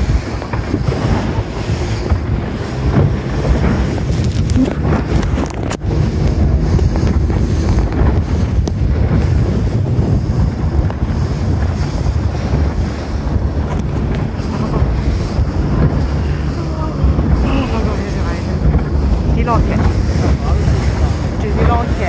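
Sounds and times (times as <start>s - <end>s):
boat engine drone: 0.0s - 22.0s
water rushing: 0.0s - 22.0s
wind buffeting microphone: 0.0s - 22.0s.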